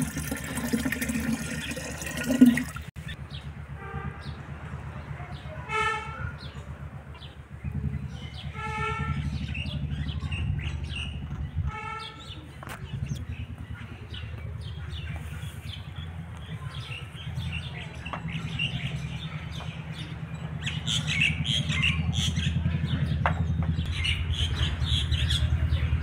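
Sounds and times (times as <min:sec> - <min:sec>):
small birds chirping: 0:04.1 - 0:26.0.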